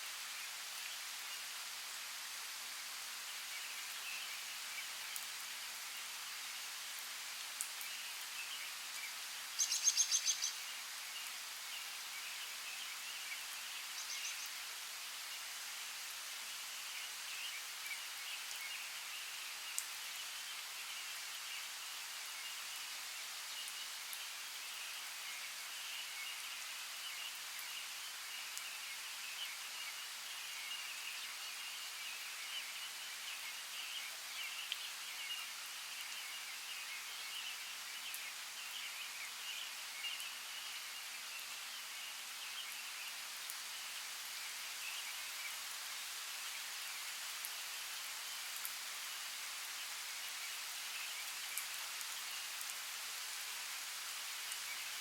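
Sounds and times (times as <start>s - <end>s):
rain hissing: 0.0s - 55.0s.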